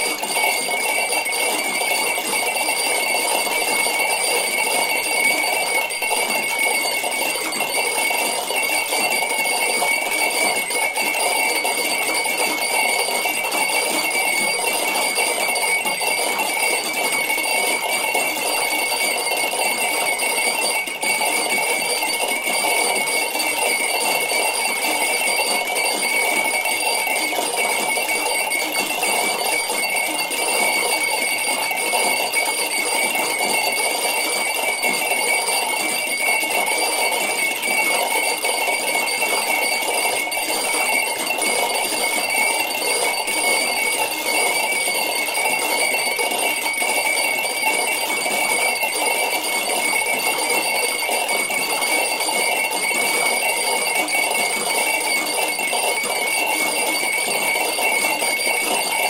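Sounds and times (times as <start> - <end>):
high ringing tones: 0.0 - 59.0.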